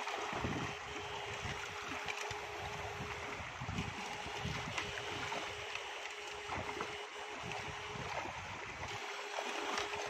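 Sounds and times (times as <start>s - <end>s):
river water flowing: 0.0s - 10.0s
thin steady hum: 0.0s - 10.0s.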